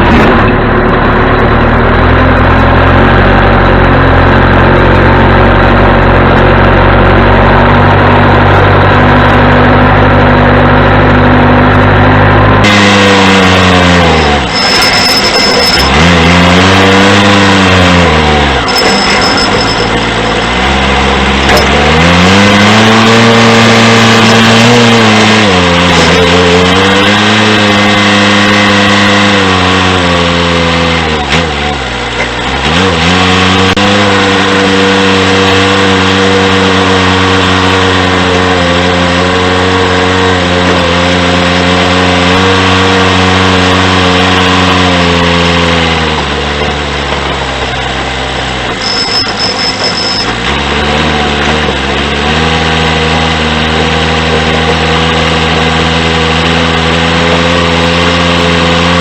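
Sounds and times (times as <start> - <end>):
diesel engine revving: 0.0 - 59.0.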